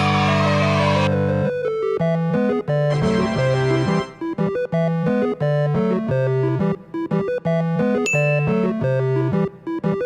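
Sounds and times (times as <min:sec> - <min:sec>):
bouncy synthesizer music: 0:00.0 - 0:10.0.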